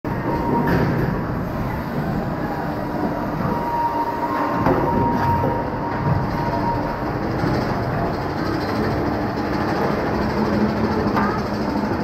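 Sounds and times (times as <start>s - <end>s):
roller coaster wheels rumbling on track: 0.1s - 12.0s.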